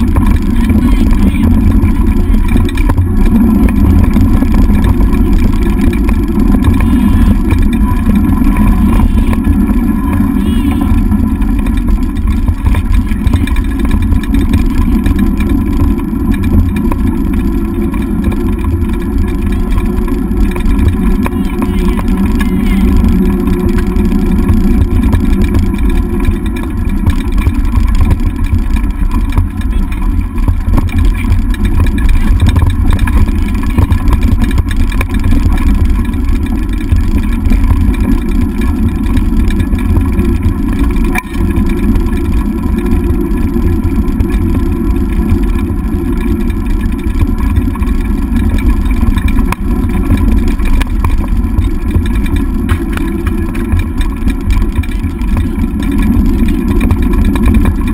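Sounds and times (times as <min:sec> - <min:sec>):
wheel and wind rumble: 0:00.0 - 0:57.9.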